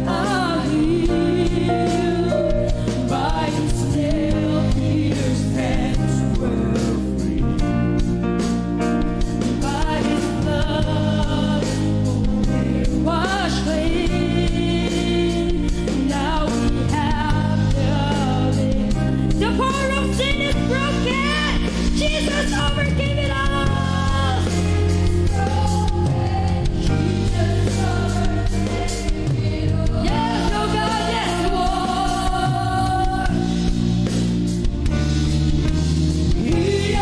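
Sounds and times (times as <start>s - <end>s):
voices singing worship song: 0.0s - 35.0s, 35.6s - 37.0s
band with bass and beat: 0.0s - 37.0s.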